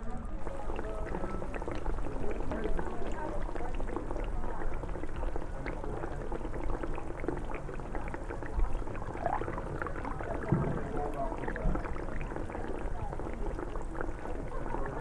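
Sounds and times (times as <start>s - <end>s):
muffled chatter: 0.0s - 15.0s.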